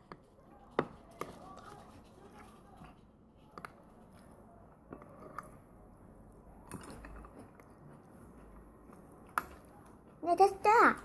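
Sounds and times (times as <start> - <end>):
soft squishing of wet food: 0.0 - 10.2.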